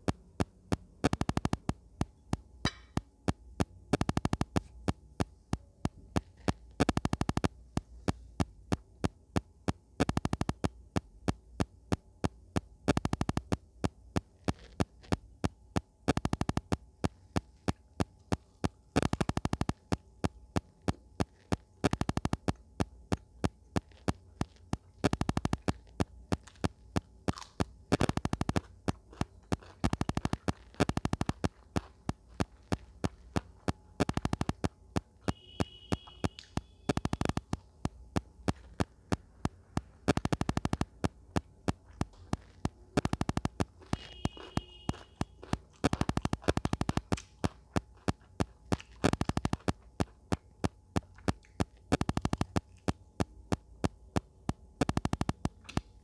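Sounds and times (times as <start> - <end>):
chewing with wet mouth clicks: 4.0 - 15.3, 16.1 - 55.9.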